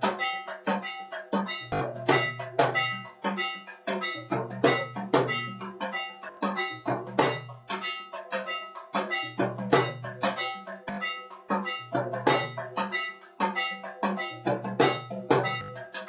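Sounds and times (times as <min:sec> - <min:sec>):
bells and gongs struck: 0:00.0 - 0:15.8.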